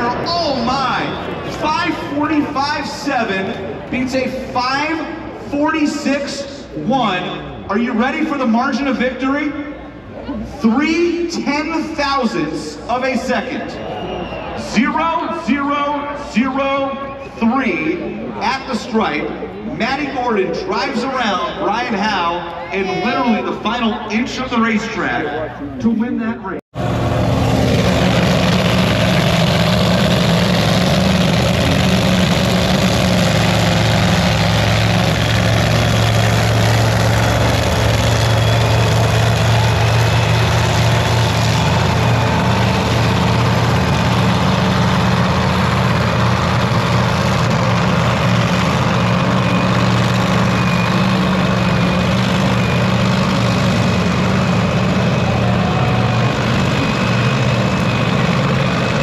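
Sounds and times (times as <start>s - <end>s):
large engine idling: 0.0s - 8.4s, 9.6s - 24.2s, 26.8s - 59.0s.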